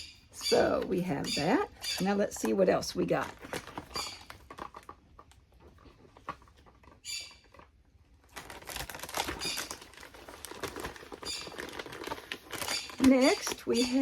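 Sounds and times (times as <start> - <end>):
plastic wrapping crackling: 0.7 - 14.0.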